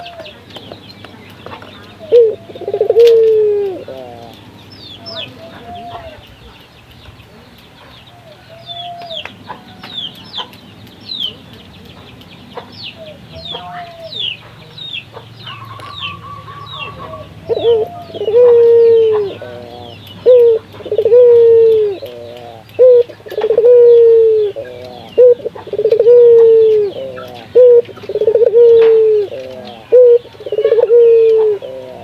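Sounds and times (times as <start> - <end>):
dove cooing: 0.0 - 6.7, 7.4 - 10.6, 12.6 - 32.0
small birds chirping: 0.0 - 32.0.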